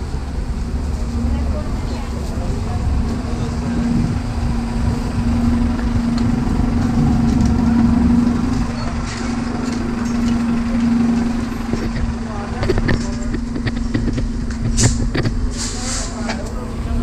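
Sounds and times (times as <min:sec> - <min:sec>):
city road traffic: 0:00.0 - 0:17.0.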